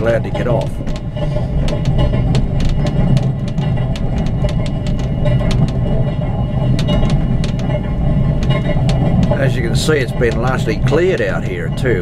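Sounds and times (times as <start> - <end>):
clickety-clack of rails: 0.0 - 12.0
train carriage rumbling: 0.0 - 12.0.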